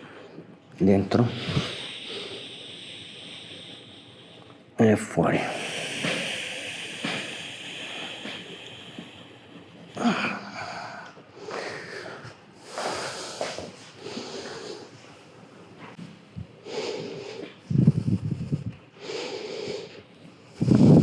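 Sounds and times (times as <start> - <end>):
man breathing deeply: 1.3 - 4.8, 5.4 - 21.0.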